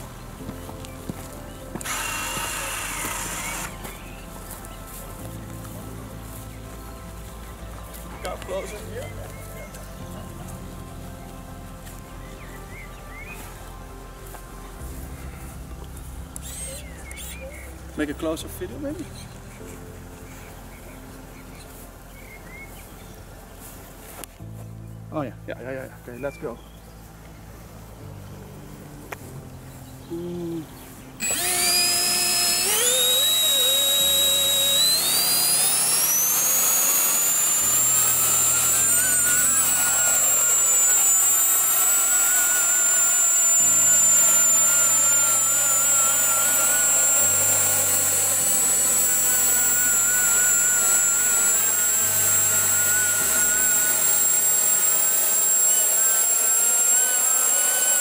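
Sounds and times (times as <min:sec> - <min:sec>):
low held music notes: 0:00.0 - 0:57.3
ducted fan high whine: 0:00.0 - 0:58.0.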